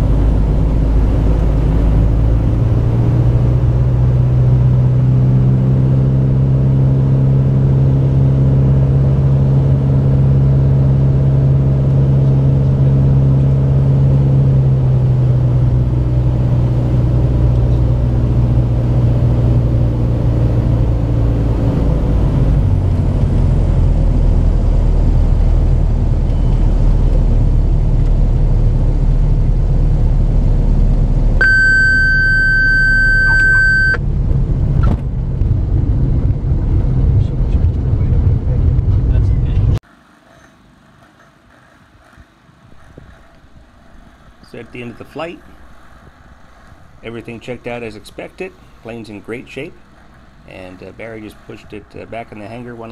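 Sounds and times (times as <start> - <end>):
aircraft engine and propeller: 0.0 - 31.8, 32.4 - 52.9.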